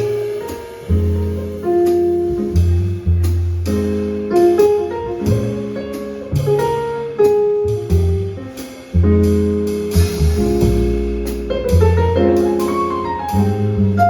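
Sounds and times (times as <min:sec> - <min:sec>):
drum kit: 0:00.0 - 0:14.0
piano chords: 0:00.0 - 0:14.0
plucked bass notes: 0:00.0 - 0:14.0.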